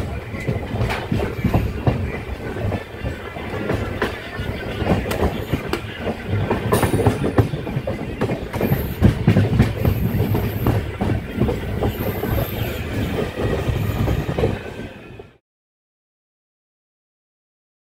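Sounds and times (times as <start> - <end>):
wheels clattering over rail joints: 0.0 - 14.7
train coaches rumbling: 0.0 - 15.4.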